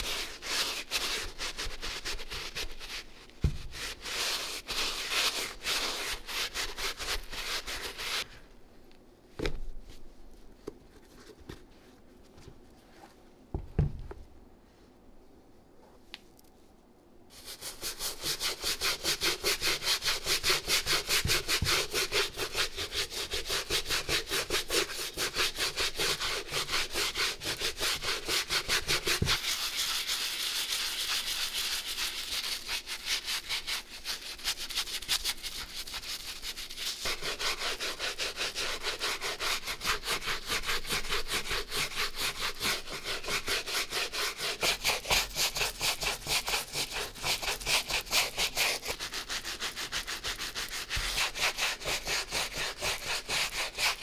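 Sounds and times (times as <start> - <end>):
brush scrubbing a sneaker: 0.0 - 8.4, 17.3 - 54.0.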